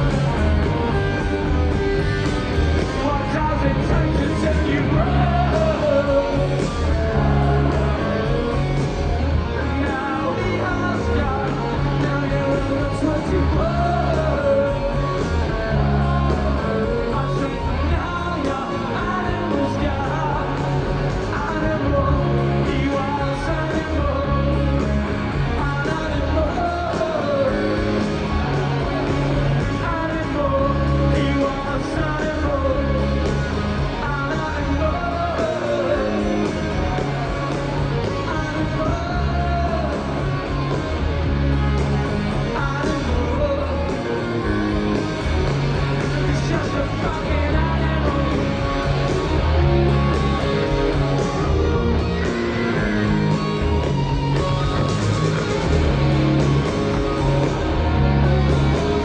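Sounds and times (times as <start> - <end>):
rock band playing: 0.0 - 59.0
man singing: 2.8 - 40.8, 42.2 - 44.9, 45.8 - 53.3.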